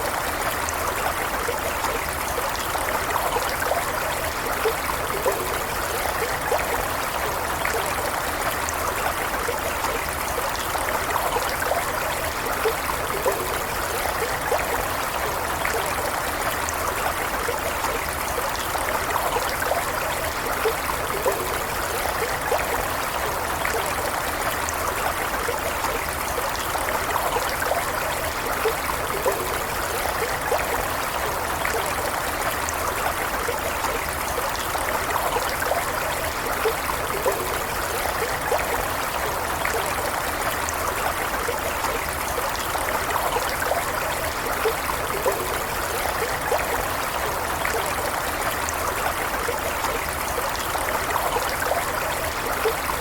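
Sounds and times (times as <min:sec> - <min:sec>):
stream burbling over stones: 0:00.0 - 0:53.0.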